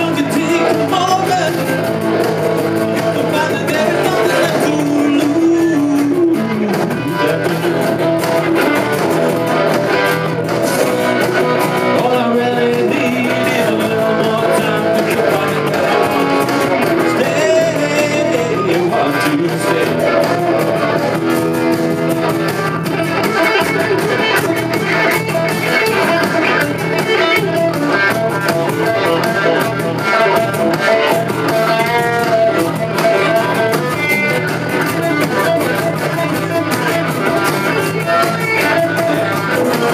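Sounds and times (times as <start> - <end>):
electric guitars: 0.0 - 39.9
live band playing: 0.0 - 39.9.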